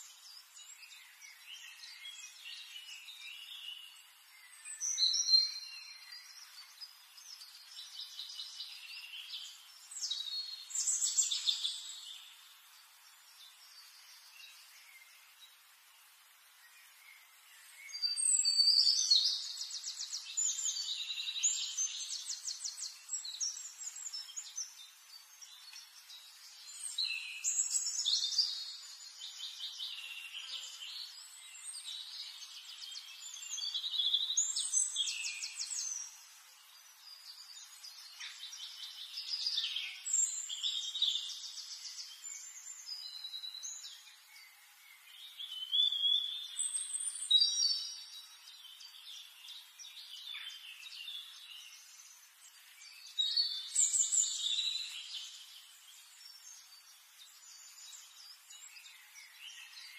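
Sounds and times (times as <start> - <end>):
finches chirping and singing: 0.0 - 59.9.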